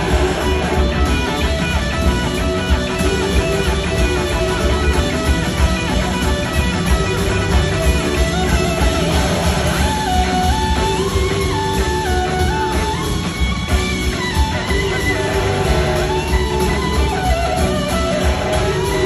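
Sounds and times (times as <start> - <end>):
electric guitar solo: 0.0 - 19.0
live band with drums: 0.0 - 19.0.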